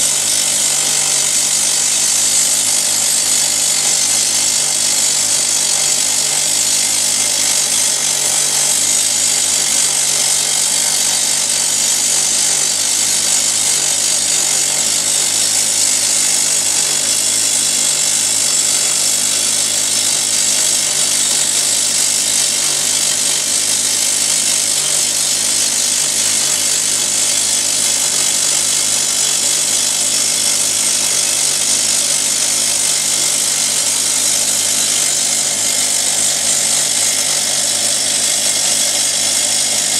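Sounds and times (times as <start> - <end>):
rock drill hammering into granite: 0.0 - 39.9.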